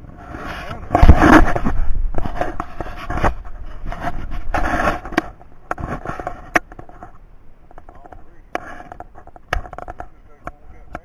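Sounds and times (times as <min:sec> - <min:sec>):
scraping and rustling: 0:00.0 - 0:11.0.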